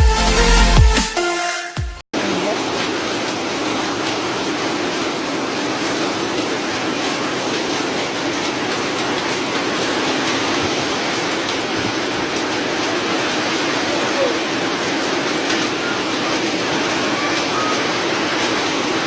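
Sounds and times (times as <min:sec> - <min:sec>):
hail falling heavily: 0:02.2 - 0:19.0.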